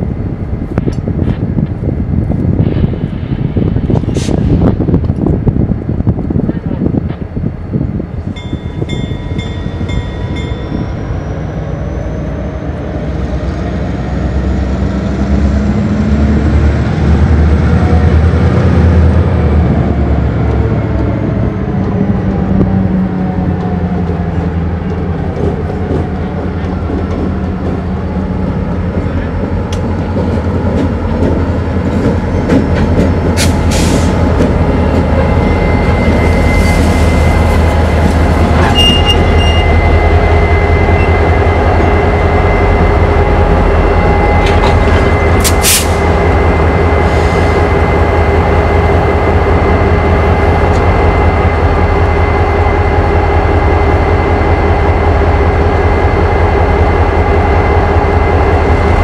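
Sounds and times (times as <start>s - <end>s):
diesel locomotives rolling past: 0.0s - 59.0s.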